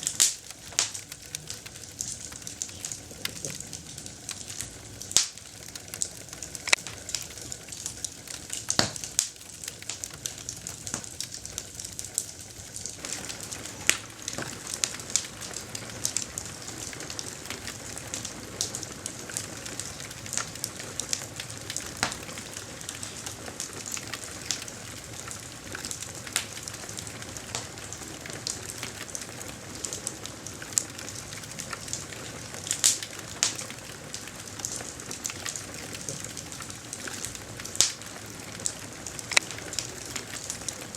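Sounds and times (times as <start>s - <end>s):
campfire hissing: 0.0s - 40.9s
wood popping and crackling: 0.0s - 40.9s.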